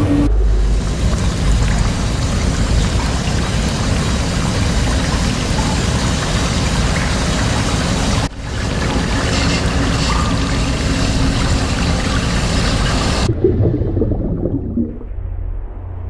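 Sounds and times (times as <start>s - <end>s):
dense rumble and hiss: 0.0s - 16.0s.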